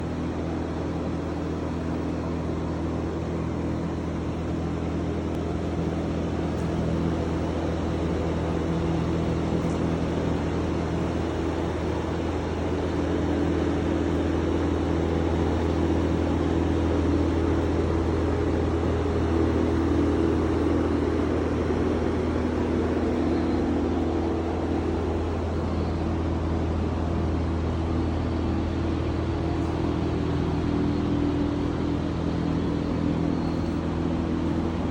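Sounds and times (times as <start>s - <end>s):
machine motor humming and whirring: 0.1s - 34.9s.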